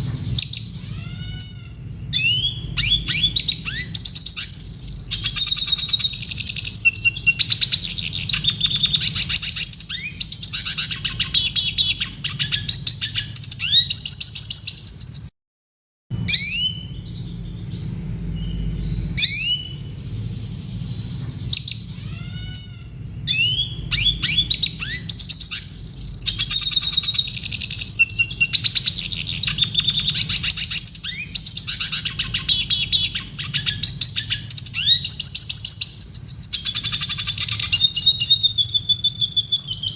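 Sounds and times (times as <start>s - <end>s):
bird rising calls: 0.0s - 15.3s, 16.2s - 39.9s
bird twittering song: 0.0s - 15.3s, 16.2s - 39.9s.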